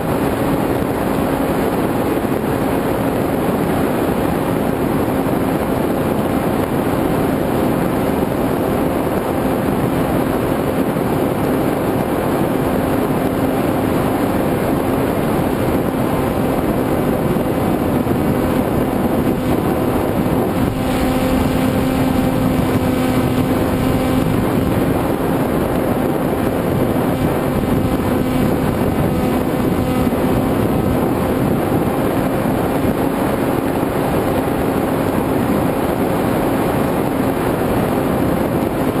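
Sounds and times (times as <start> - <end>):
electric motor and propeller hum: 0.0 - 39.0
wind rushing over microphone: 0.0 - 39.0.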